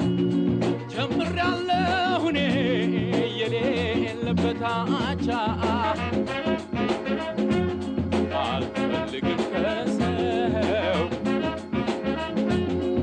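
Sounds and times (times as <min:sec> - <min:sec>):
swing or ska music: 0:00.0 - 0:13.0.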